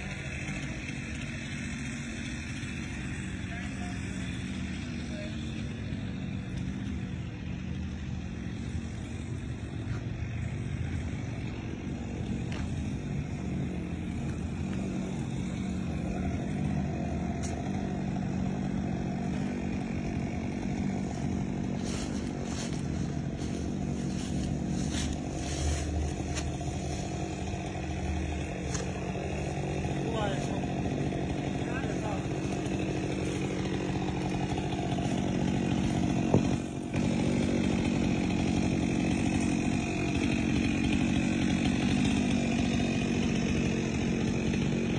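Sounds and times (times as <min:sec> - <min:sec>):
chainsaw engine running: 0:00.0 - 0:44.9.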